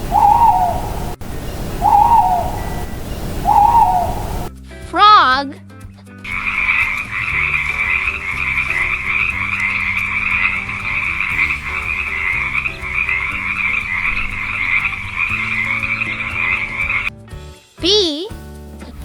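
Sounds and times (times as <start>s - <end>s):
frogs croaking: 0.0s - 4.5s, 6.3s - 17.1s.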